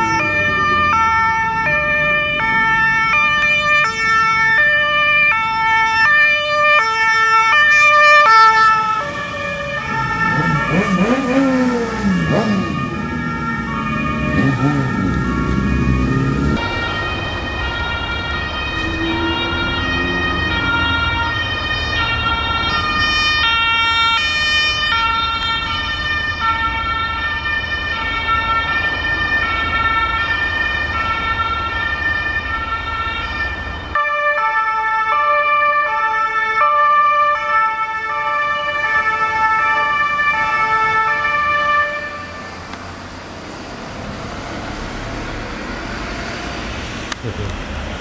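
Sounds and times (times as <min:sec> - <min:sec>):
two-tone ambulance siren: 0:00.0 - 0:47.2
low traffic rumble: 0:00.0 - 0:48.0.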